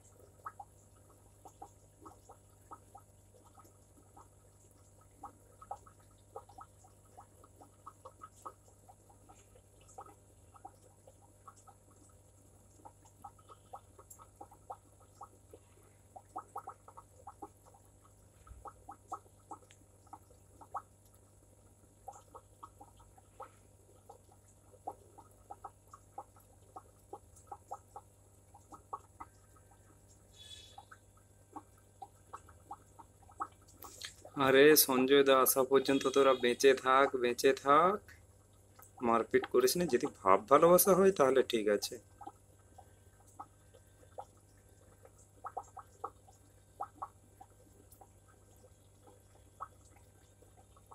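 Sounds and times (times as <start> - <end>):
soft bubble pops: 0.0 - 30.2, 30.8 - 34.9, 36.8 - 50.9
aquarium air pump humming: 0.0 - 50.9
water drips and plinks: 0.0 - 50.9.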